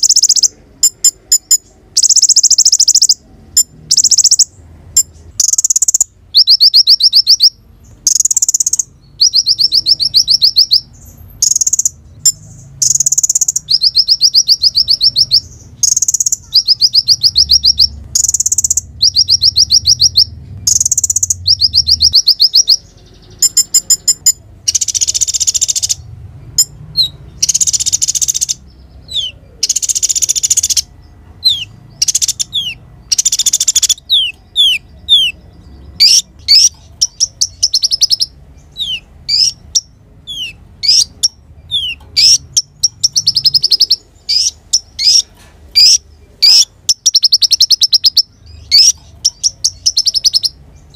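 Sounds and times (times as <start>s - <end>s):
bird singing trills and chips: 0.0s - 50.9s.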